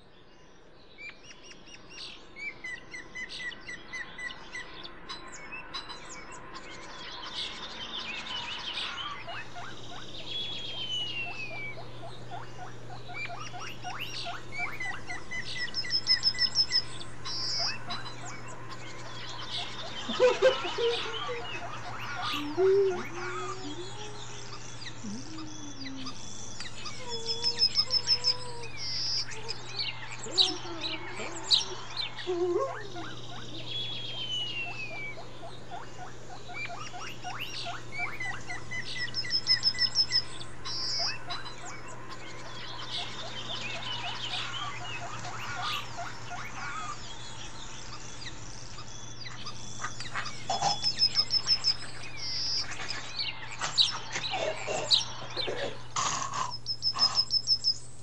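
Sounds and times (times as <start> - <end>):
birds chirping and whistling: 0.0 - 58.0
loud rapid bird trill: 0.0 - 58.0
steady low hum: 0.0 - 58.0.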